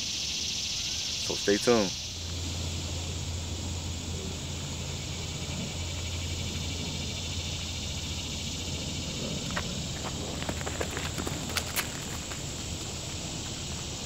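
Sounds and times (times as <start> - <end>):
insects chorus: 0.0 - 14.0
low steady hum: 0.0 - 14.0.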